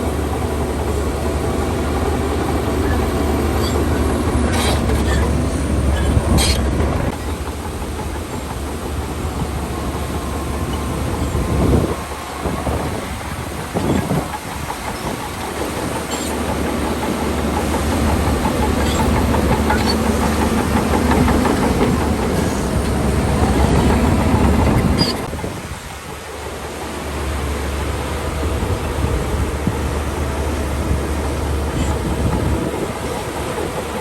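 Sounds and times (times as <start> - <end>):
bulldozer diesel engine under load: 0.0 - 34.0
steel tracks clanking: 0.0 - 34.0.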